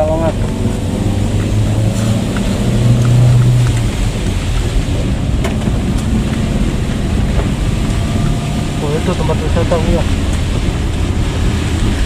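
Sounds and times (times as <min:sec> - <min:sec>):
engine and road rumble: 0:00.0 - 0:12.0
rain ticking on car body: 0:00.0 - 0:12.0.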